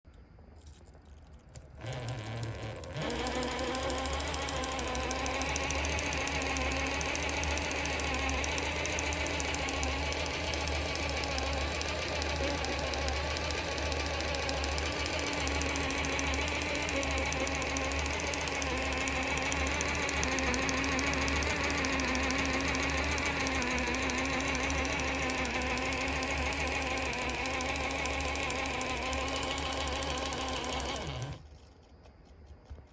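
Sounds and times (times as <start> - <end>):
rapid clicking from gears: 1.1 - 31.7
electric motor humming: 1.8 - 31.5.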